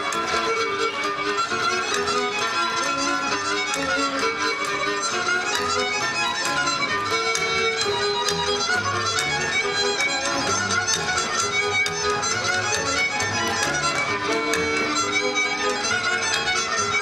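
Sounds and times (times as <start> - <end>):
fiddle playing dance tune: 0.0 - 17.0.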